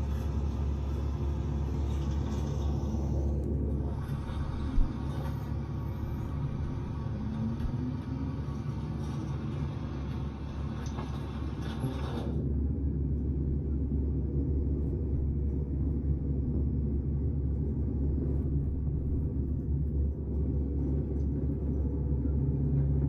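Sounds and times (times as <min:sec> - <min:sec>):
bus engine rumble: 0:00.0 - 0:23.0.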